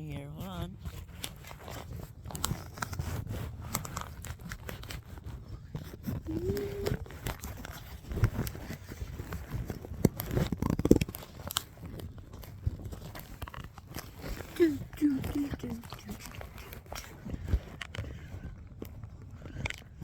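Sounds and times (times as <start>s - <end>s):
handling noise rustling and scraping: 0.8s - 20.0s.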